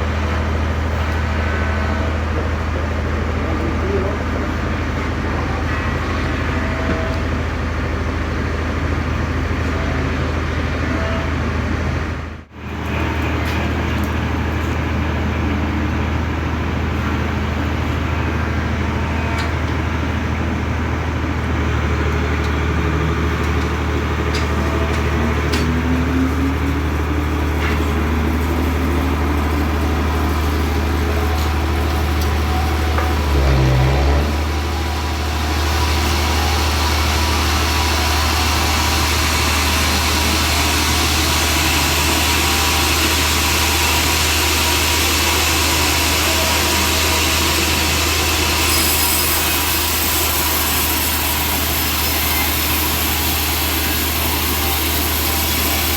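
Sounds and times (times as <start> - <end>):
bandsaw sawmill engine hum: 0.0 - 55.9.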